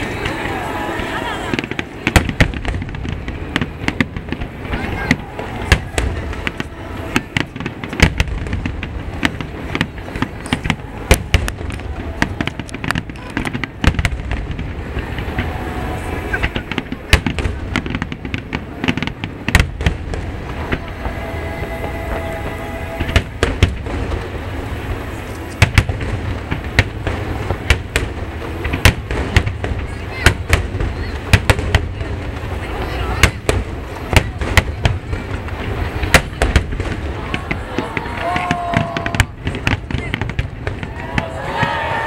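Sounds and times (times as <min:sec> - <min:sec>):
low rumble: 0:00.0 - 0:38.3
fireworks bangs: 0:00.0 - 0:42.0.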